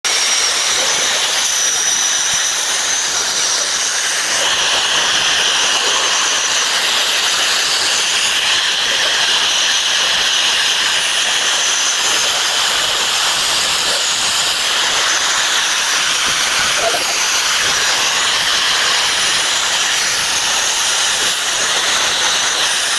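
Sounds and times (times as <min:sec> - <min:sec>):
welding arc hissing: 0:00.1 - 0:22.9.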